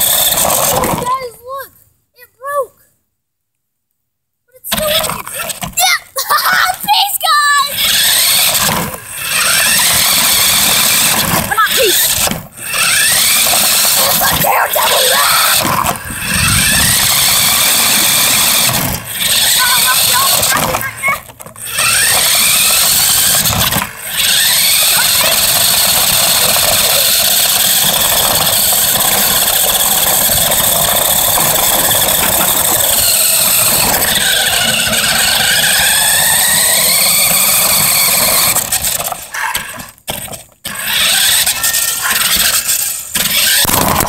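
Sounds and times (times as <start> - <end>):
rc car motor whine: 0.0 - 1.1, 4.8 - 5.8, 7.4 - 44.0.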